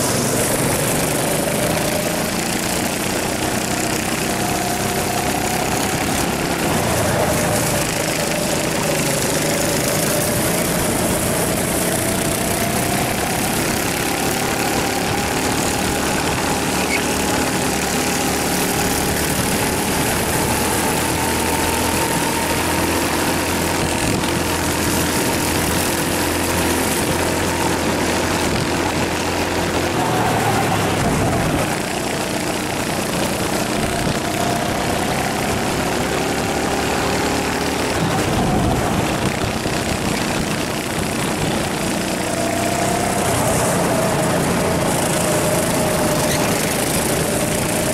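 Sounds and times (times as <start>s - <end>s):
go-kart engine at full throttle: 0.0s - 47.9s.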